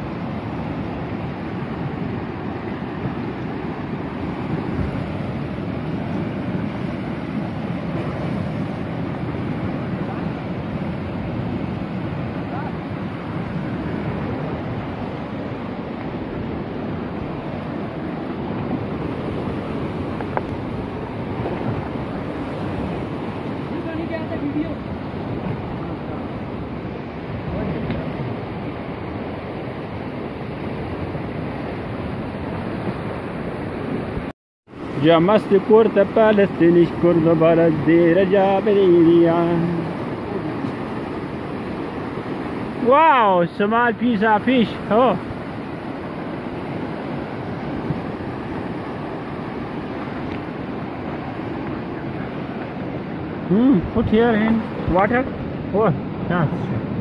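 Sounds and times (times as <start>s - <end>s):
fast-flowing river rushing: 0.0s - 57.0s.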